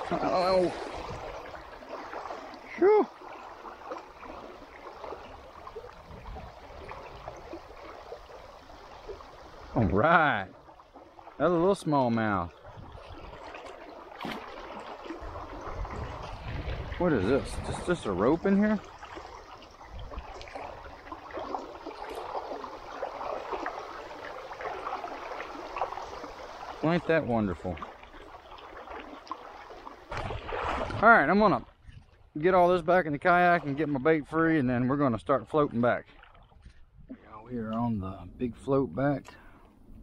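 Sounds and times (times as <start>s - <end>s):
water gurgling and trickling: 0.0s - 40.0s.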